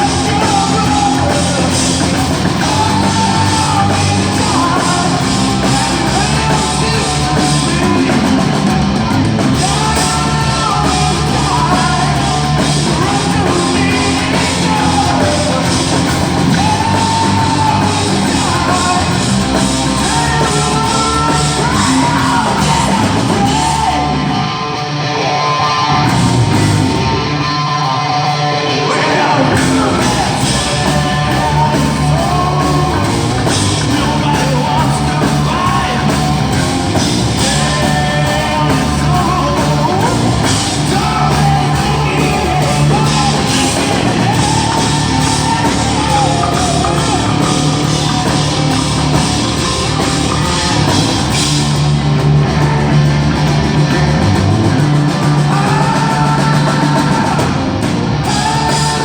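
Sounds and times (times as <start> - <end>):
person singing: 0.0 - 53.2, 54.9 - 59.0
loud heavy rock band: 0.0 - 59.0.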